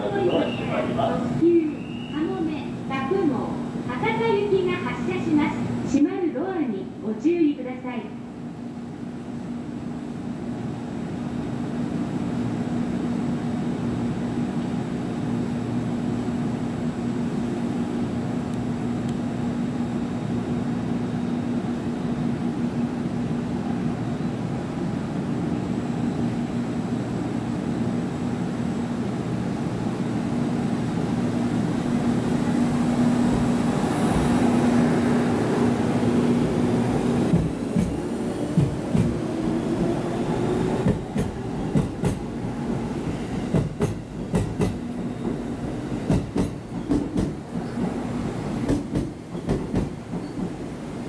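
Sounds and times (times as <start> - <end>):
electric train hum: 0.0 - 51.0
train rolling rumble: 8.6 - 51.0.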